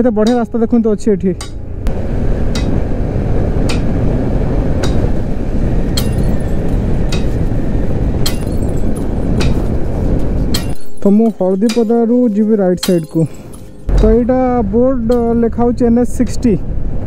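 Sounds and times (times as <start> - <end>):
wind noise: 1.8 - 17.0.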